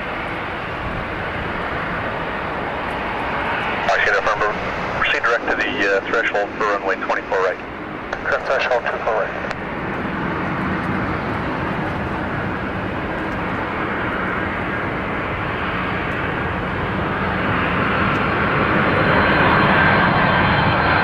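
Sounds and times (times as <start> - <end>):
jet engine noise: 0.0 - 21.0.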